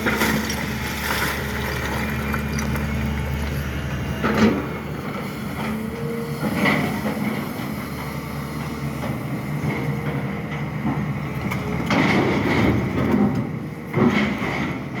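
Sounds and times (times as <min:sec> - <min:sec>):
diesel engine running: 0:00.0 - 0:14.2.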